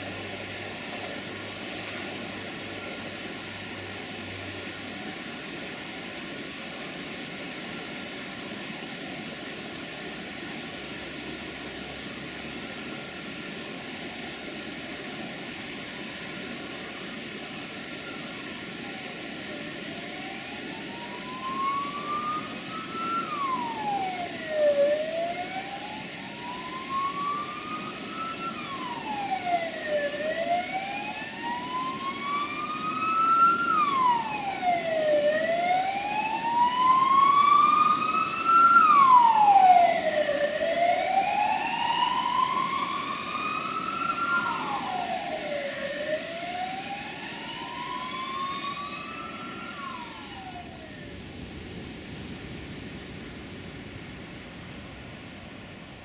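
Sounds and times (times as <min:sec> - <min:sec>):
emergency siren wailing: 0:00.0 - 0:51.4.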